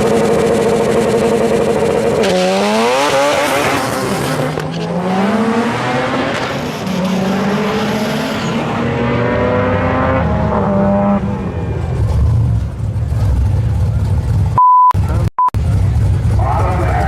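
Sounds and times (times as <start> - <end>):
performance car engine accelerating: 0.0 - 17.0.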